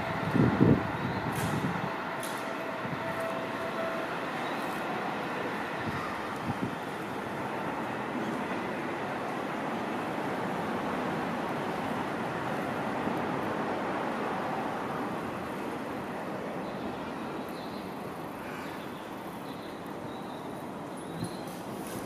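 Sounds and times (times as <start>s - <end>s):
electric train rolling on track: 0.0s - 22.0s.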